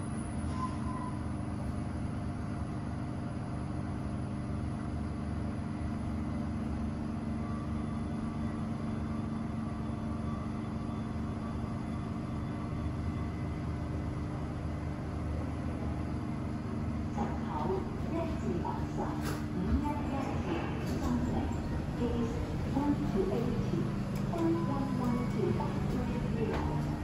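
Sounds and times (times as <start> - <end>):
elevator low hum and rumble: 0.0 - 27.0.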